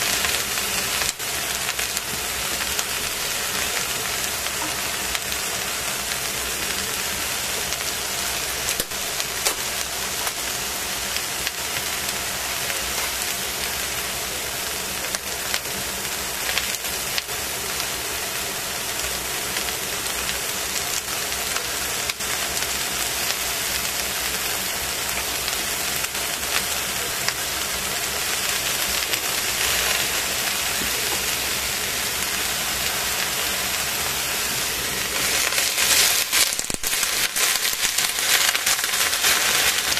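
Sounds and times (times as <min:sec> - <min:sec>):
vegetables sizzling in a pot: 0:00.0 - 0:39.9.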